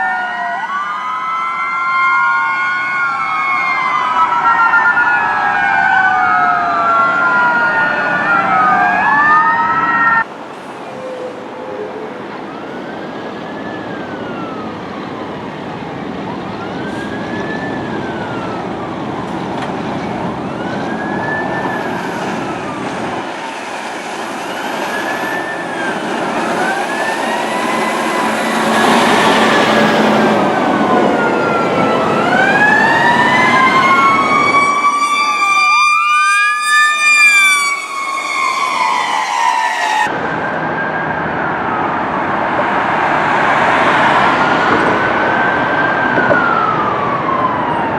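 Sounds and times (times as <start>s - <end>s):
fire truck sirens wailing: 0.0s - 47.9s.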